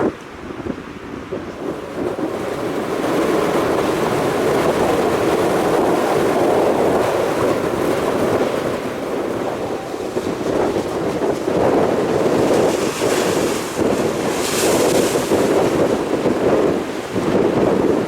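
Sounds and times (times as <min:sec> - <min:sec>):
wind buffeting microphone: 0:00.0 - 0:18.0
waves crashing: 0:01.2 - 0:18.0.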